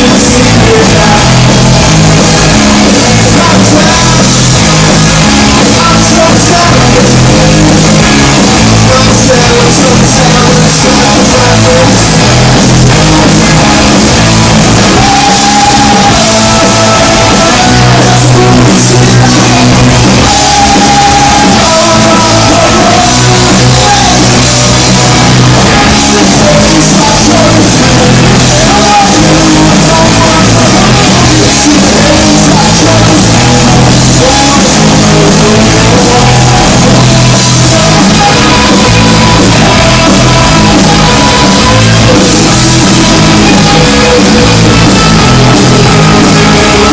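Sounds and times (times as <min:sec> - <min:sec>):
person singing: 0:00.0 - 0:46.9
rock band playing live: 0:00.0 - 0:46.9.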